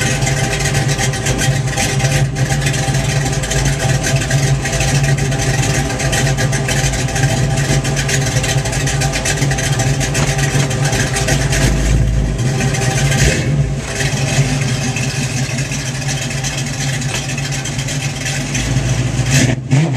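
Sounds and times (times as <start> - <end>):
car engine exhaust rumble: 0.0 - 19.9.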